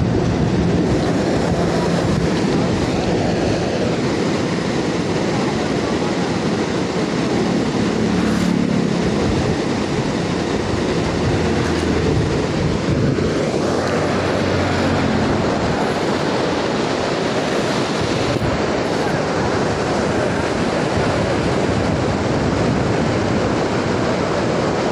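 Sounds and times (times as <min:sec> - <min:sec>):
river water rushing over weir: 0:00.0 - 0:24.9.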